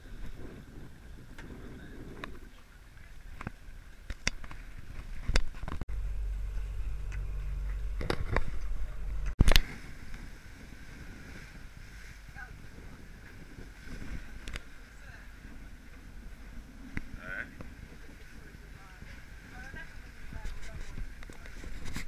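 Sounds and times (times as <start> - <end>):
water rushing along hull: 0.0 - 22.0
wind buffeting microphone: 0.0 - 22.0.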